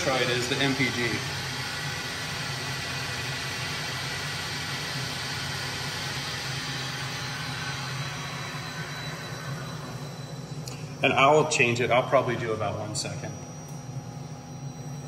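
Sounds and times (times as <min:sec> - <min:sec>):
lathe spindle whirring: 0:00.0 - 0:12.8.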